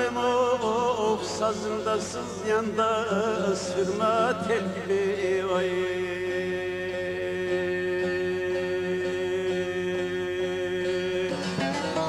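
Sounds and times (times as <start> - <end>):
man singing a long note: 0.0 - 12.0.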